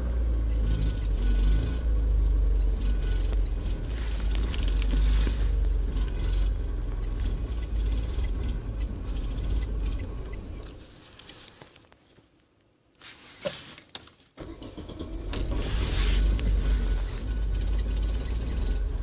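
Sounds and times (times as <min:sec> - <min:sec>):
car engine rumbling: 0:00.0 - 0:11.8, 0:14.4 - 0:19.0.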